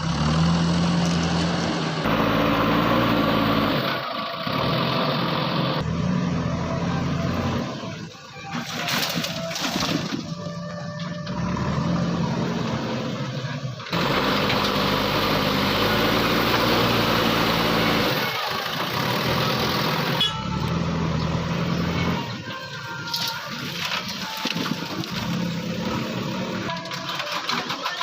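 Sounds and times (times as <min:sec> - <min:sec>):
diesel engine running: 0:00.0 - 0:27.8.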